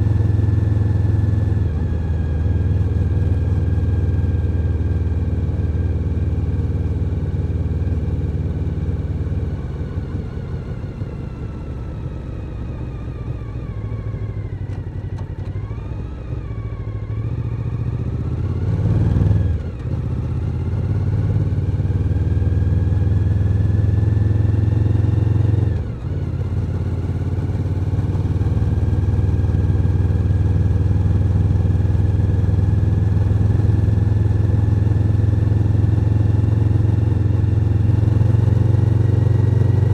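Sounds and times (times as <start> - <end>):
motorcycle engine accelerating: 0.0 - 12.4, 13.1 - 39.9.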